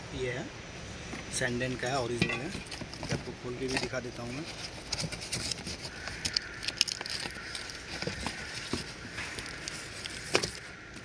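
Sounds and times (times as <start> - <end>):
cardboard and plastic rustling: 1.1 - 11.0.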